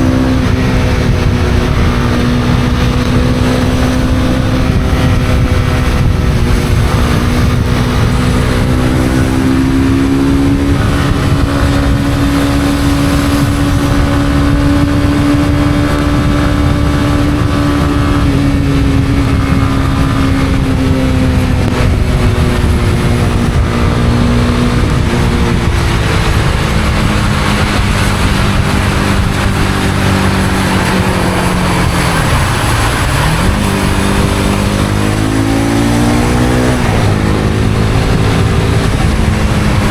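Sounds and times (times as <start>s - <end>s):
motorcycle engine running: 0.0s - 39.9s
wind and tyre noise: 0.0s - 39.9s.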